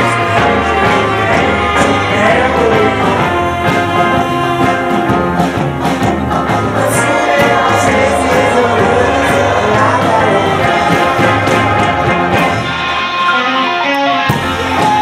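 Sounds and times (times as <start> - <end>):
live band playing loudly: 0.0 - 15.0.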